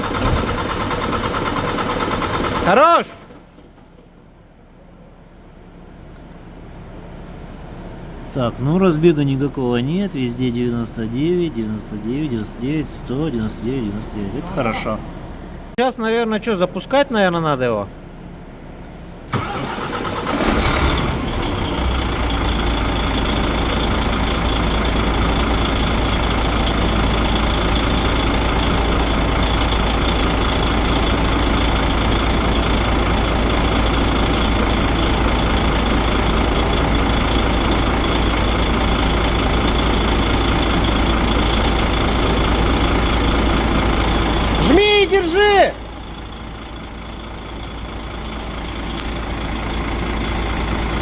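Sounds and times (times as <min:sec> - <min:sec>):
diesel engine idling: 0:00.0 - 0:51.0
diesel truck engine starting: 0:00.0 - 0:51.0.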